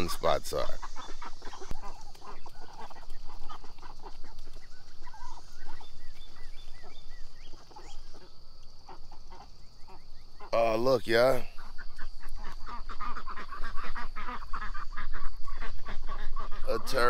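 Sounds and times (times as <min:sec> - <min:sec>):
ducks dabbling in mud: 0:00.0 - 0:10.6, 0:11.3 - 0:17.0
ducks chirping: 0:00.0 - 0:17.0.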